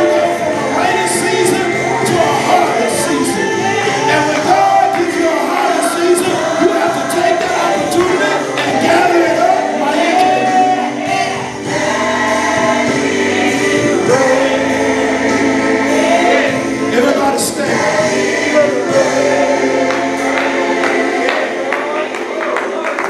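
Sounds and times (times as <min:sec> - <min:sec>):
gospel choir singing: 0:00.0 - 0:23.0
musical accompaniment: 0:00.0 - 0:23.0.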